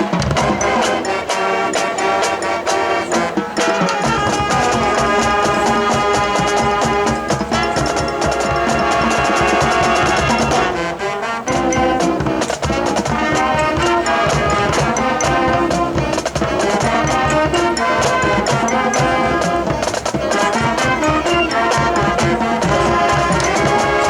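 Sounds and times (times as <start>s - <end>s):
brass section melody: 0.0s - 24.0s
drumline beat: 0.0s - 24.0s.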